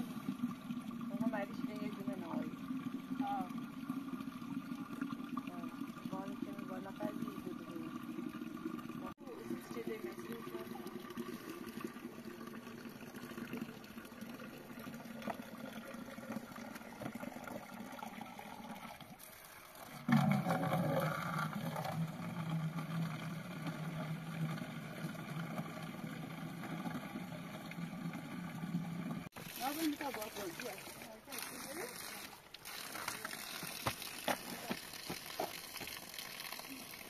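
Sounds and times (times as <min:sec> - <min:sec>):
spring water trickling and splashing: 0:00.0 - 0:37.0.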